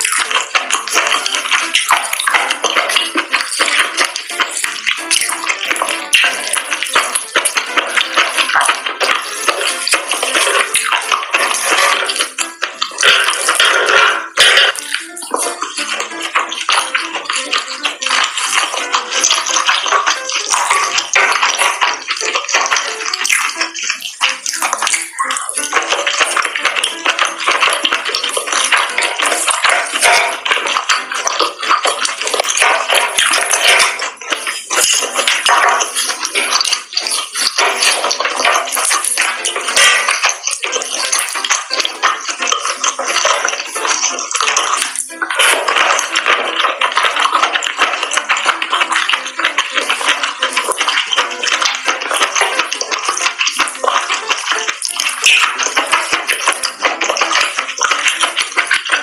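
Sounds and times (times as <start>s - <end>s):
music: 0.0s - 59.0s
wet sticky chewing sounds: 0.0s - 59.0s.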